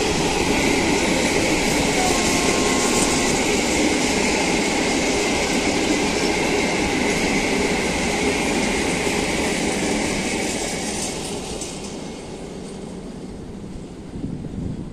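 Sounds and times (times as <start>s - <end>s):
freight train wagons rolling: 0.0s - 13.0s.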